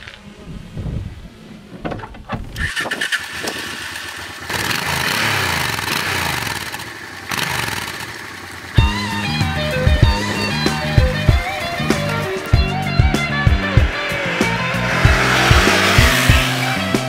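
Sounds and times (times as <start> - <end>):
motorcycle engine starting and revving: 0.0 - 17.0.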